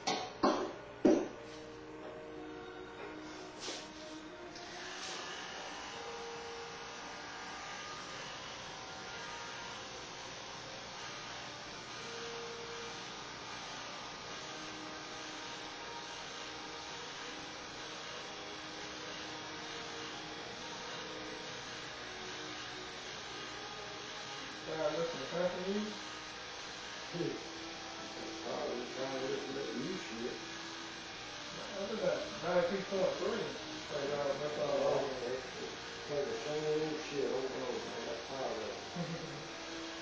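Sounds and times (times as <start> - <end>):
electric hair clippers buzzing: 0.0 - 40.0.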